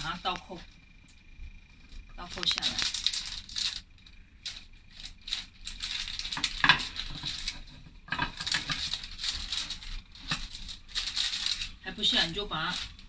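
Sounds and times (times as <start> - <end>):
parchment paper rustling: 2.2 - 13.0.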